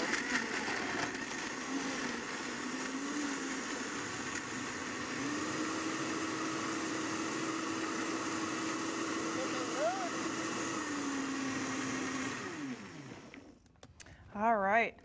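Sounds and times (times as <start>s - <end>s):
blender running: 0.0s - 13.5s.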